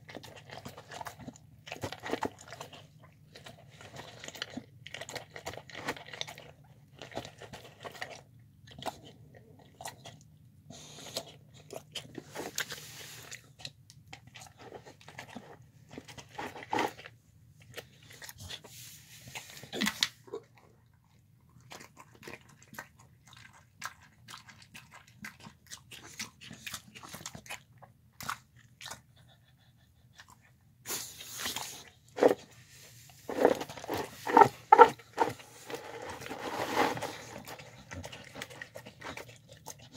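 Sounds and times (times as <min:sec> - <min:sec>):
dog chewing wet food: 0:00.0 - 0:18.7, 0:19.3 - 0:30.8, 0:31.5 - 0:39.9.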